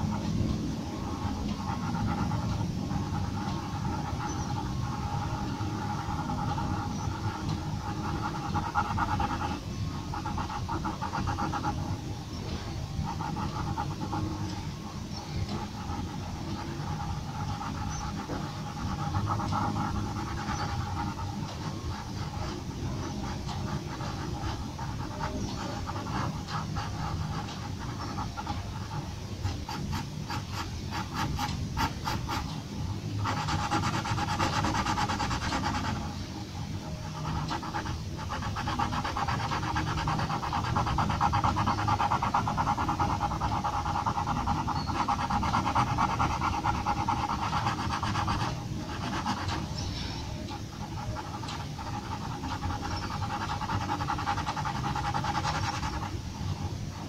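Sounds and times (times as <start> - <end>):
pencil scratching on paper: 0.0 - 57.0.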